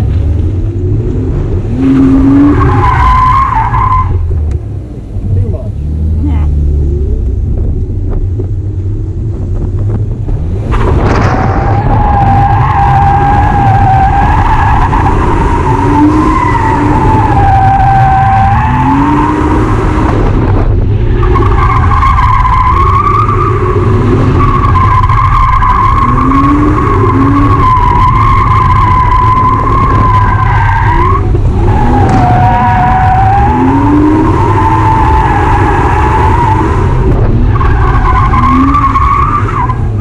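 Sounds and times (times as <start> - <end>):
car engine revving: 0.0 - 40.0
car tyres squealing: 0.8 - 4.4, 10.6 - 40.0.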